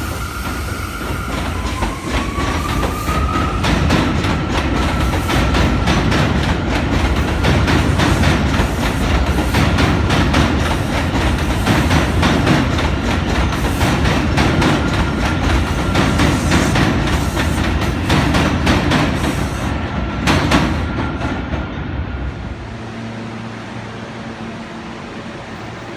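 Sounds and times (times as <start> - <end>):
train rumbling on steel structure: 0.0 - 25.9.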